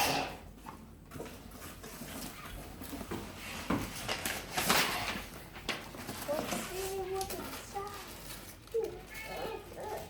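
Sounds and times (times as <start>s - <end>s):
cardboard and paper rustling: 1.1s - 10.0s.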